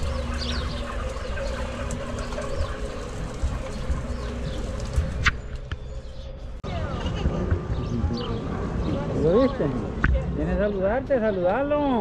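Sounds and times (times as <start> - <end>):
steady low rumble: 0.0 - 11.3.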